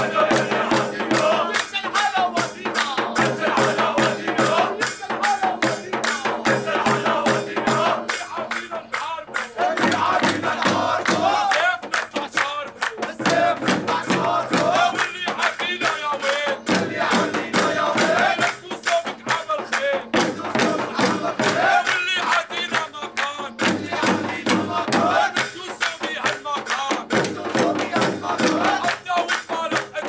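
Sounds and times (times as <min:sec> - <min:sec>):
fast frame drum beat: 0:00.0 - 0:30.0
men chanting a song: 0:00.0 - 0:30.0
hand clapping: 0:00.2 - 0:30.0.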